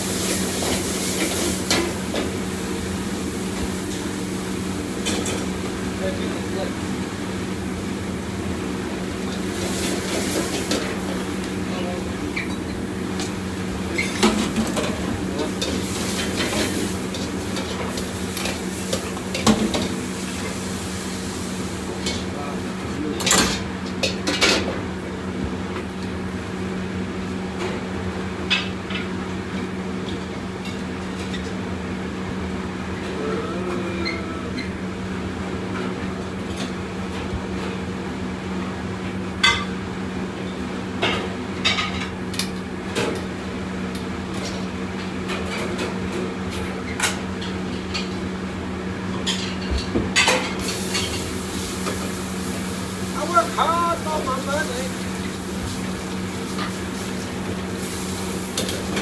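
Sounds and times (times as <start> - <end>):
wok range hum: 0.0 - 59.0.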